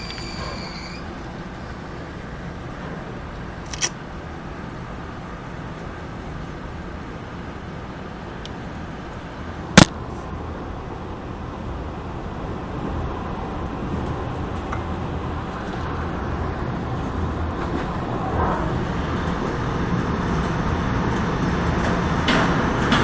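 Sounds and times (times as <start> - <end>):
heavy rushing wind with rumble: 0.0 - 23.0.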